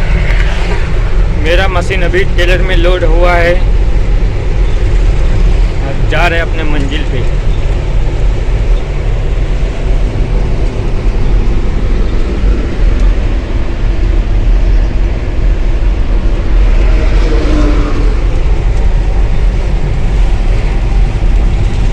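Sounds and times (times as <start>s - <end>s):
diesel truck engine rumbling: 0.0s - 21.9s.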